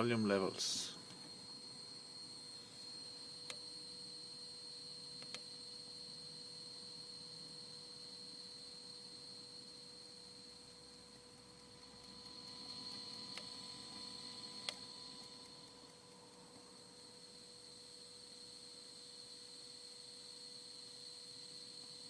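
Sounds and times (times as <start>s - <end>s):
speaker electrical whine and hum: 0.0s - 22.0s.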